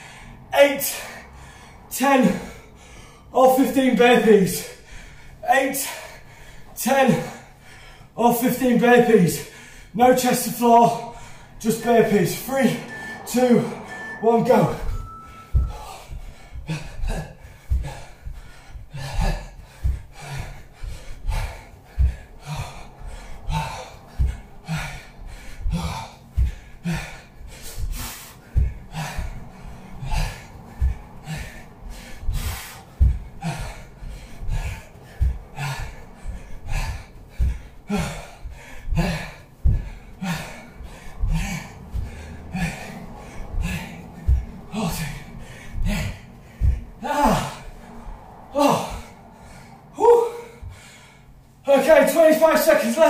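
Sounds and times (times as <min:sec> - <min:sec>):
man breathing hard: 0:00.0 - 0:08.2, 0:09.1 - 0:10.0, 0:10.6 - 0:51.6.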